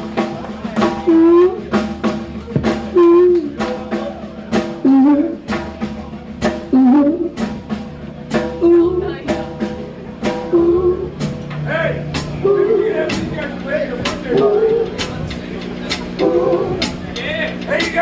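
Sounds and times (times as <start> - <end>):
drum kit hitting hard: 0.0 - 18.0
rock band playing: 0.0 - 18.0.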